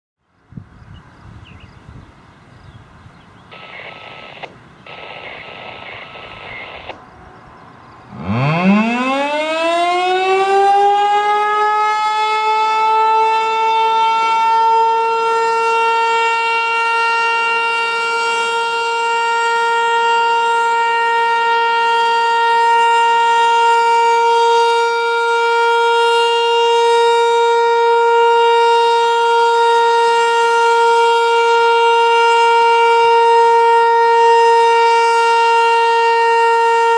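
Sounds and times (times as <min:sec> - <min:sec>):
warning siren winding up and wailing: 0:03.5 - 0:07.0, 0:08.1 - 0:36.9.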